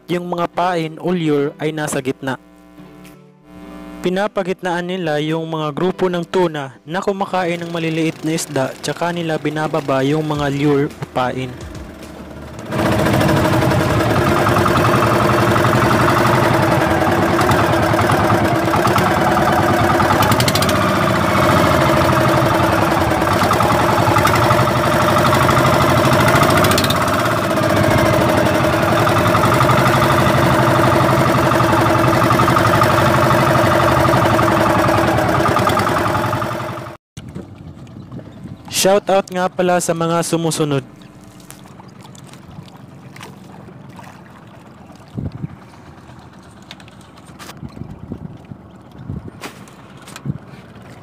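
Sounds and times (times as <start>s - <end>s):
boat engine running: 5.8s - 51.0s.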